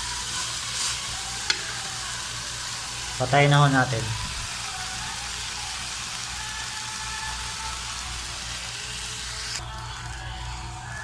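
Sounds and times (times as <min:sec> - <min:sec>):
liver sizzling in a pan: 0:00.0 - 0:11.0.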